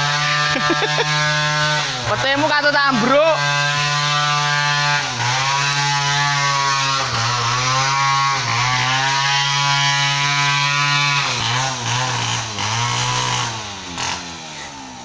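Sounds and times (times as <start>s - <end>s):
chainsaw cutting timber: 0.0s - 15.0s.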